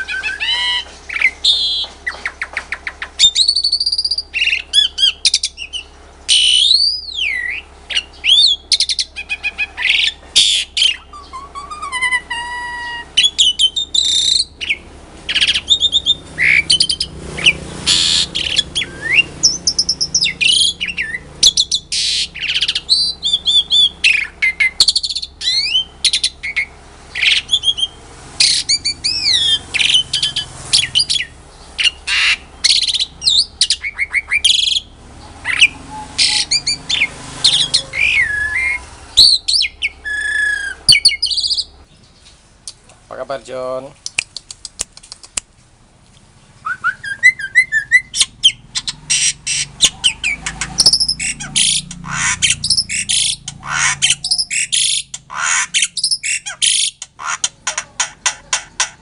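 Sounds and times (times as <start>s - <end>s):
starling singing: 0.0s - 42.8s, 46.4s - 59.0s.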